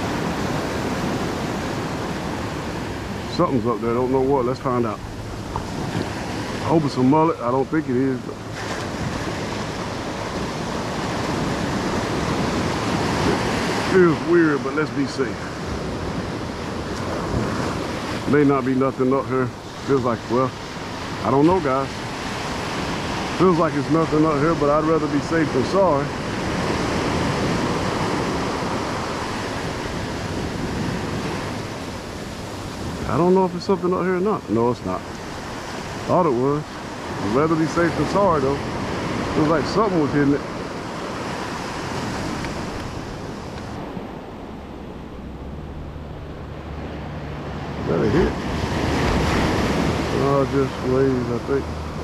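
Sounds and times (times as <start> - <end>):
ocean waves breaking on beach: 0.0 - 52.0
wind on microphone: 0.0 - 52.0.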